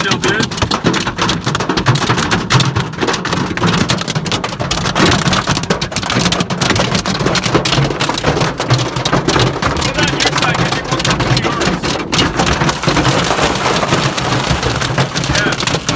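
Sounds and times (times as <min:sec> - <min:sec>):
hail and rain on a car roof: 0:00.0 - 0:15.9.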